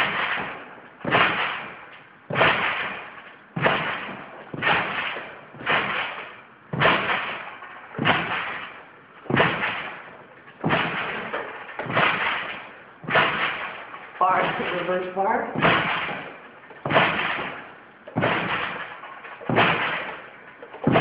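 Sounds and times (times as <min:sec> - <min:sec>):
trampoline bounces: 0:00.0 - 0:21.0.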